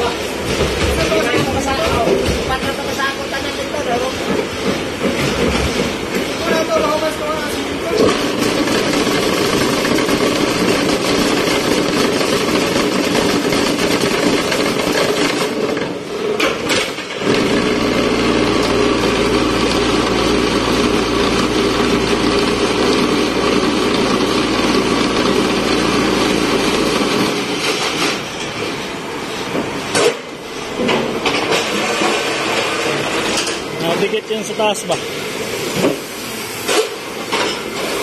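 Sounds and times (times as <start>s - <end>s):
machine mechanical drone: 0.0s - 35.4s.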